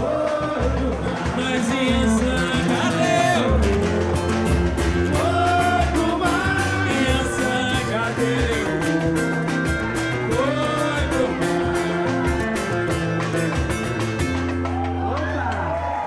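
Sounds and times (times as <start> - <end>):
voices singing together: 0.0 - 13.2
hand percussion: 0.0 - 15.8
bass drum beats: 0.0 - 16.0
strummed string instrument: 1.1 - 15.6.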